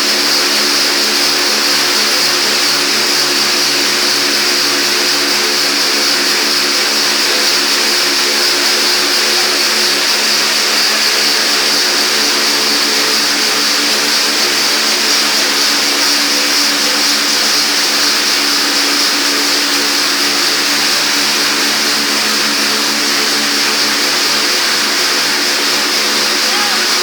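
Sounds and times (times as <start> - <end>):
high-pressure water jets hissing: 0.0 - 27.0
pump motor hum: 0.0 - 27.0.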